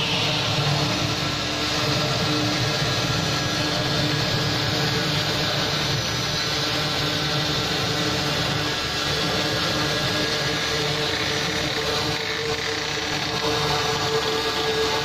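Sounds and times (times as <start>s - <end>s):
router spindle milling foam: 0.0s - 15.0s.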